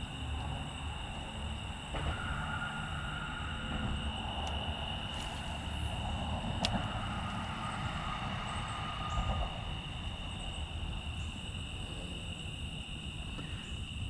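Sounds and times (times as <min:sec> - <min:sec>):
crickets and insects trilling: 0:00.0 - 0:14.0
low background rumble: 0:00.0 - 0:14.0.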